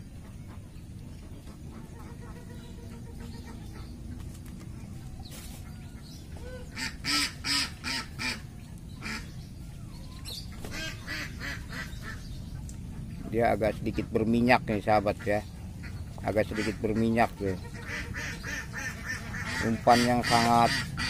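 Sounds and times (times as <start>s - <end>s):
ducks quacking: 0.0s - 4.3s, 5.6s - 9.4s, 10.5s - 21.0s.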